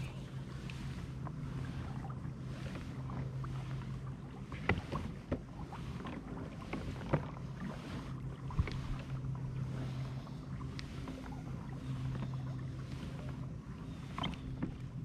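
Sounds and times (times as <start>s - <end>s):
low hum: 0.0s - 15.0s
water washing along kayak hull: 0.0s - 15.0s.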